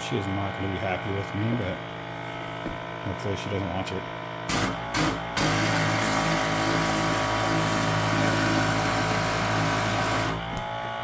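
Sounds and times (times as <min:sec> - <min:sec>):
electric pump motor hum: 0:00.0 - 0:11.0.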